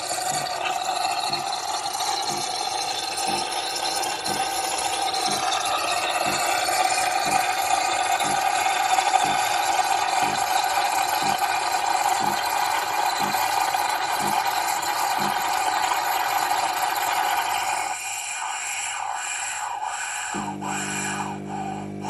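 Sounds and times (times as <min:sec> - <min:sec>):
espresso machine pump humming: 0:00.0 - 0:18.5, 0:20.3 - 0:22.0.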